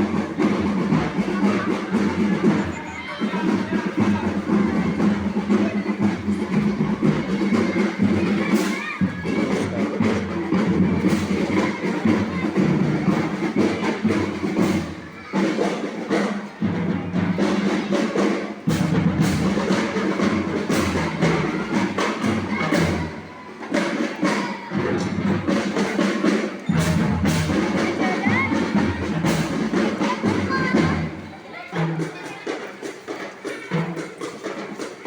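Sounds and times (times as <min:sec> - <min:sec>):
drums beating: 0:00.0 - 0:35.0
marching band playing: 0:00.0 - 0:35.0.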